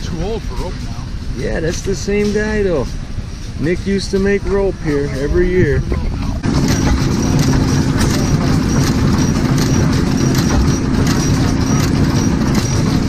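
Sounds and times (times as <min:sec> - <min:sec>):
old stationary engines running: 0:00.0 - 0:13.0.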